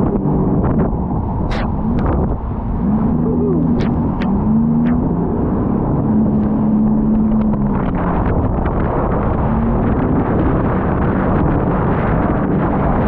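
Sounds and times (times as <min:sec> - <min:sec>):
jet ski engine drone: 0:00.0 - 0:13.0
wind rushing on microphone: 0:00.0 - 0:13.0.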